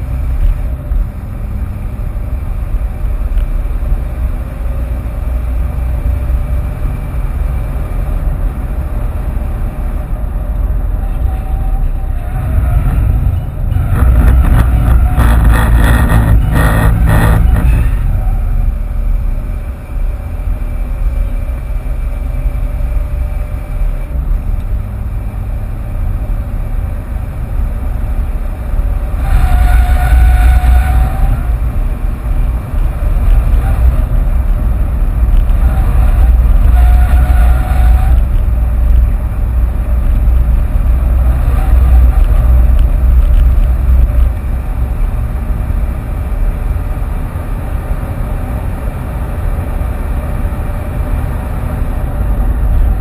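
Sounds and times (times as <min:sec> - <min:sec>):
car engine driven hard: 0:00.0 - 0:53.0
road and wind noise: 0:00.0 - 0:53.0.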